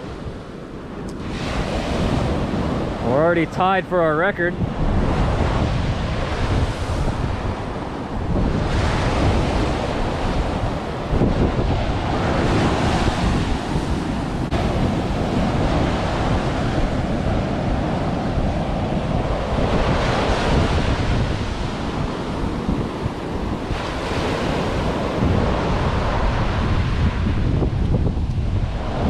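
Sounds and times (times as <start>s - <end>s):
ocean surf breaking on beach: 0.0s - 29.0s
wind buffeting microphone: 0.0s - 29.0s.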